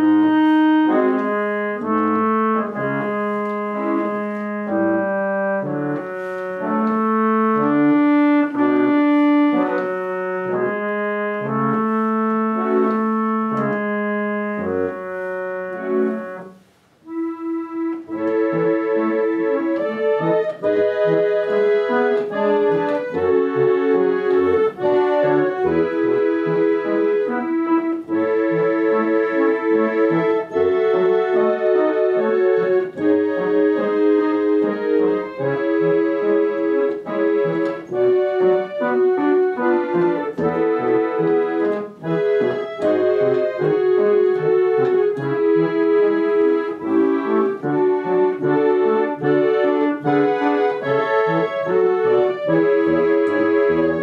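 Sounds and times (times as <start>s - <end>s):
organ melody over held chords: 0.0s - 54.0s
reed organ playing chords: 0.0s - 54.0s.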